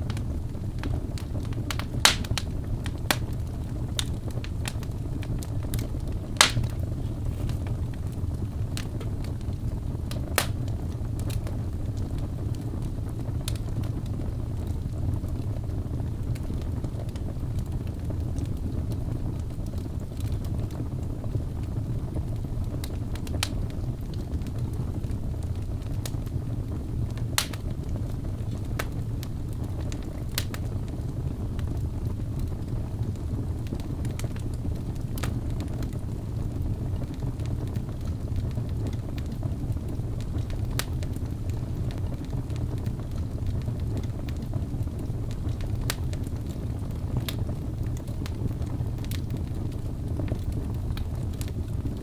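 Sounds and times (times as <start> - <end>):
low rumble of flames: 0.0 - 52.0
wood fire crackling and popping: 0.0 - 52.0.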